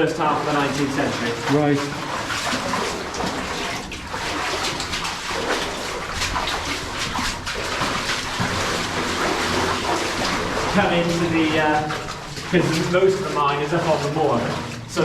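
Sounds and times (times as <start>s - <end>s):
wading through shallow water: 0.0s - 15.0s.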